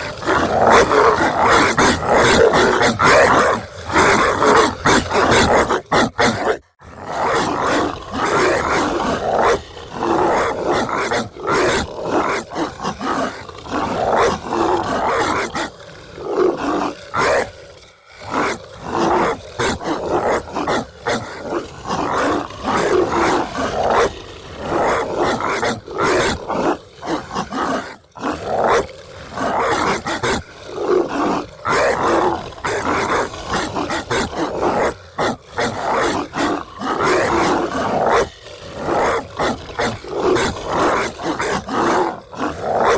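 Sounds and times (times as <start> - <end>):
dog snarling barks and growls: 0.0 - 42.9.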